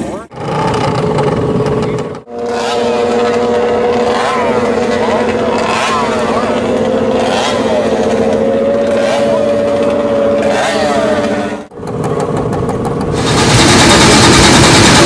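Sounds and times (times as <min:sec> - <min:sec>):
rough loud engine: 0:00.0 - 0:15.0.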